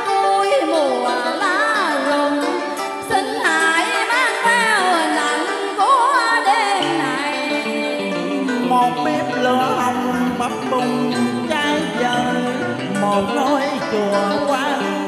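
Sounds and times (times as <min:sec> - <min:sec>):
karaoke duet over speakers: 0:00.0 - 0:15.0.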